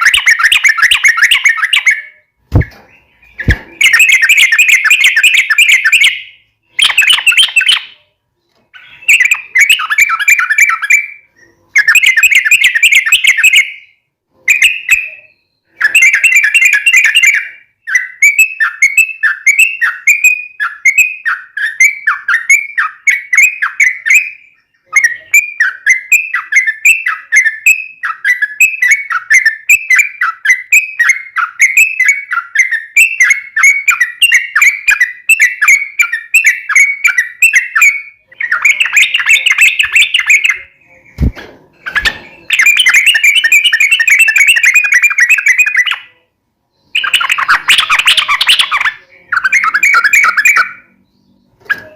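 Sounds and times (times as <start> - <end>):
bulbul singing: 0.0 - 51.9.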